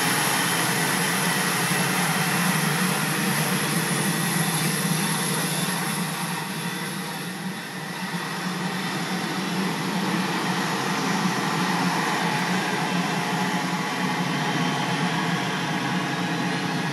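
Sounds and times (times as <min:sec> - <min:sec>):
jet engines whining: 0:00.0 - 0:16.9.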